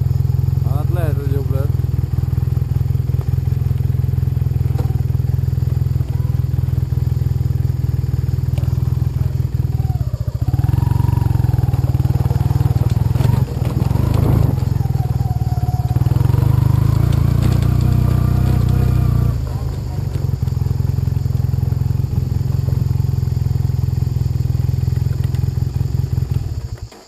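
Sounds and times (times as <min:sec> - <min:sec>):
motorcycle engine idling and revving: 0:00.0 - 0:27.0
tyres on gravel: 0:00.0 - 0:27.0.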